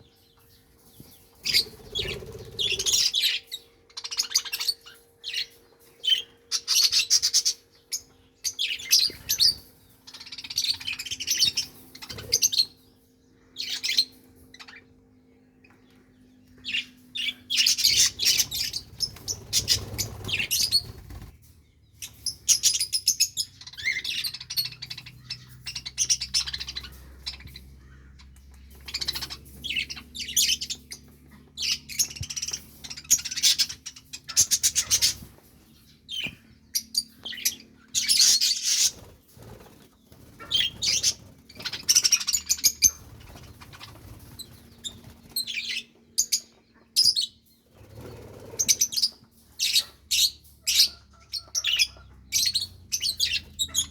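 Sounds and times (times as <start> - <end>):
budgerigars chirping and chattering: 0.0 - 53.9.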